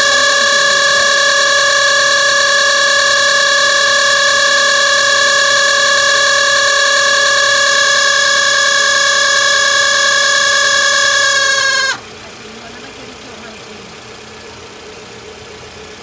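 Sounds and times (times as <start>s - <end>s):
cooling fan high-pitched whine: 0.0s - 16.0s.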